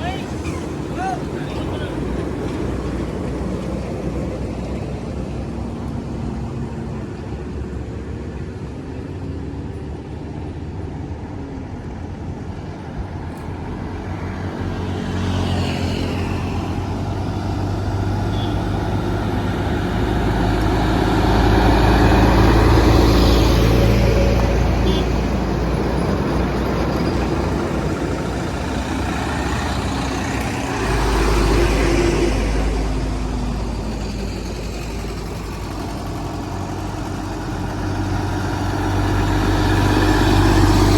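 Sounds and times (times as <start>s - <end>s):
truck engines on highway: 0.0s - 40.9s.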